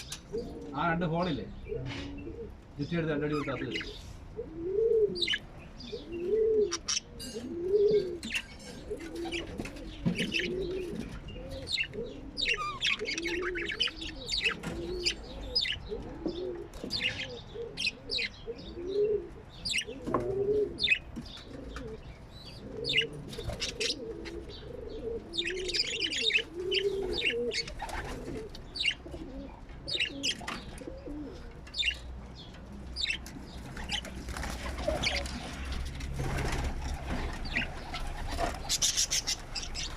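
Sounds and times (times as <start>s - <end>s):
low cooing bird: 0.0s - 35.8s
birds chirping and tweeting: 0.0s - 39.9s.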